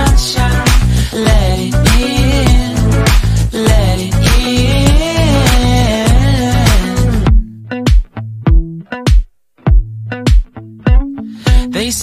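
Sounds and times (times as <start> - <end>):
pop song with drums and bass: 0.0 - 12.0.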